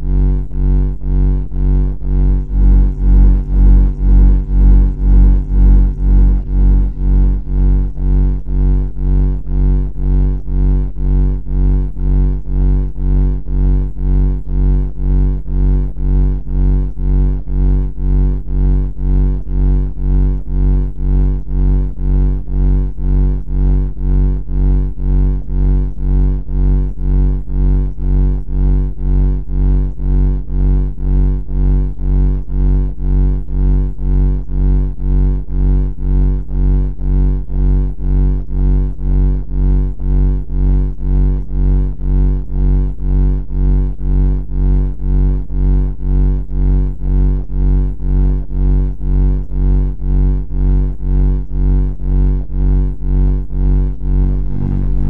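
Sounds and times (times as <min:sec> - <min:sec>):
throbbing low buzzing drone: 0:00.0 - 0:55.0.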